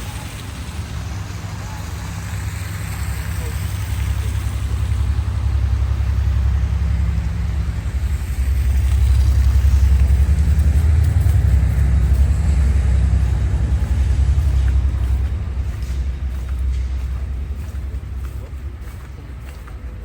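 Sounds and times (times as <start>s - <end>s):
large vehicle engine rumble: 0.0s - 20.0s.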